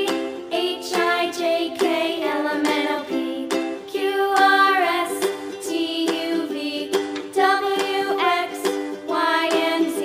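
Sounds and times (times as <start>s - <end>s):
rhythmic plucked accompaniment: 0.0s - 10.0s.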